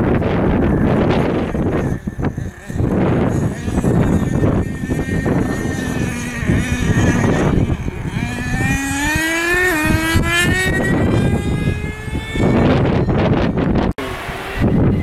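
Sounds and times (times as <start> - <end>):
small nitro engine revving: 0.0 - 15.0
wind buffeting microphone: 0.0 - 15.0.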